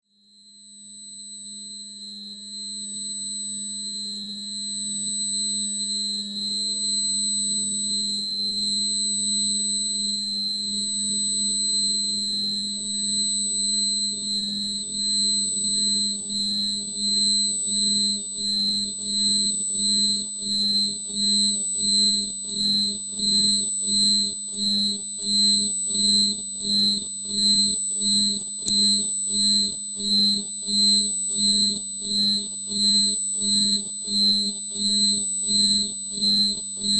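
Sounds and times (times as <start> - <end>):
loud pulsing electronic tone: 0.3 - 36.9.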